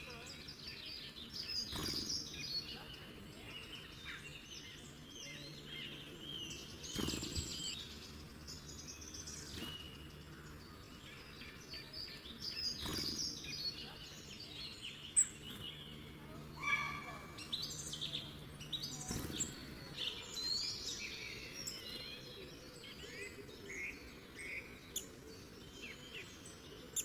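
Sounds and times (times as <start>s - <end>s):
birds chirping and trilling: 0.0s - 27.0s.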